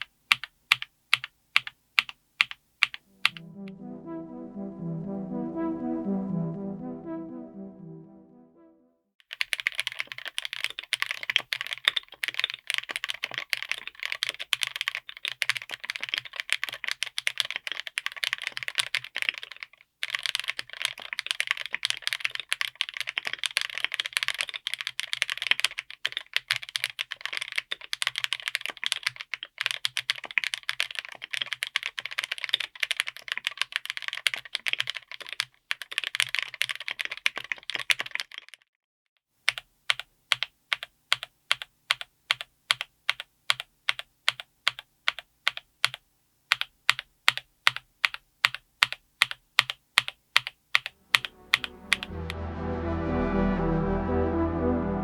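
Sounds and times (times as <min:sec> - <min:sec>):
mechanical keyboard typing: 0:00.0 - 0:03.0, 0:09.3 - 0:38.6, 0:39.5 - 0:52.1.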